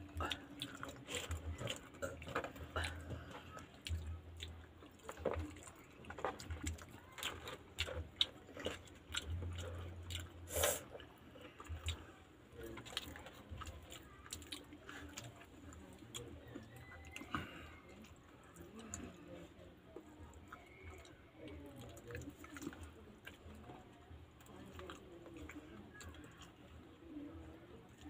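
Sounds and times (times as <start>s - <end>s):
people chewing pizza: 0.0s - 28.0s.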